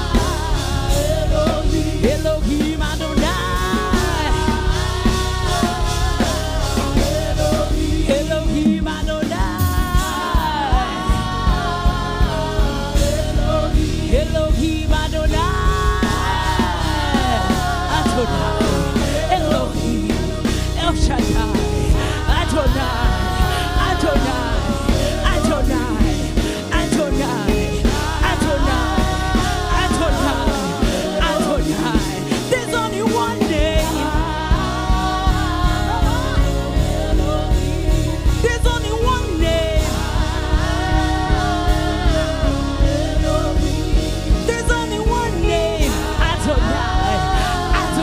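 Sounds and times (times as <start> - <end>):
gospel band playing: 0.0 - 48.0
person singing: 0.0 - 48.0
steady drum beat: 0.0 - 48.0.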